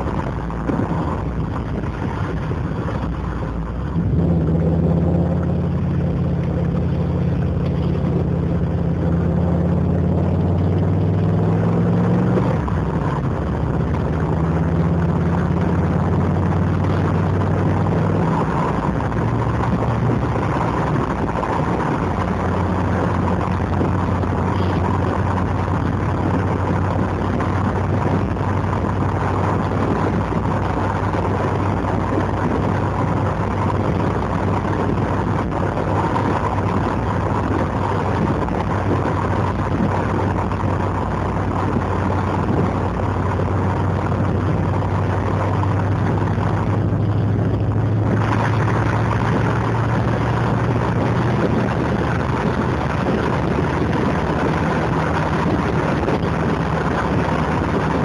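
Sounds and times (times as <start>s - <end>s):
car engine burbling: 0.0s - 58.0s
road and wind noise: 0.0s - 58.0s.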